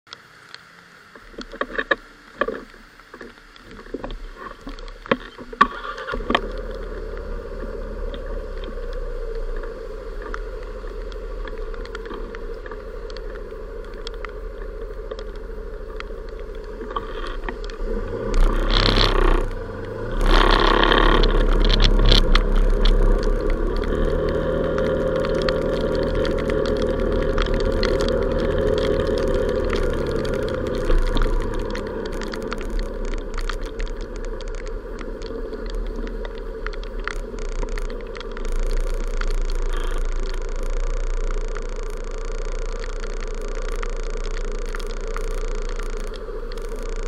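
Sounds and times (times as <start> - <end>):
motorcycle engine hum: 0.4 - 47.0
rushes of noise: 1.0 - 47.0.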